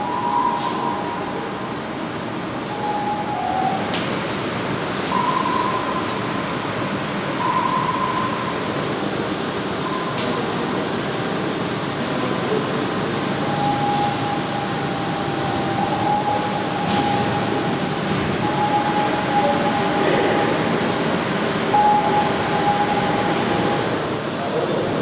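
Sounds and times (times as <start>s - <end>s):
underground hall background noise: 0.0s - 25.0s.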